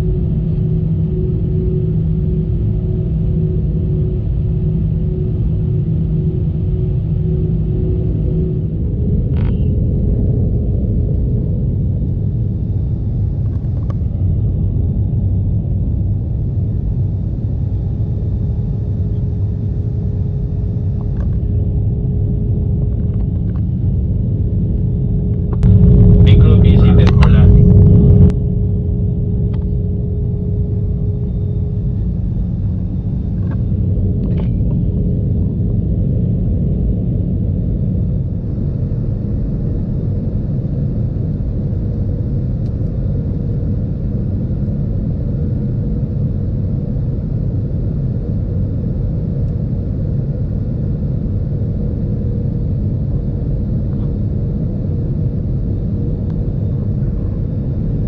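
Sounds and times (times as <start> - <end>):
airplane cabin rumble: 0.0 - 58.0
faint steady hum: 0.0 - 58.0.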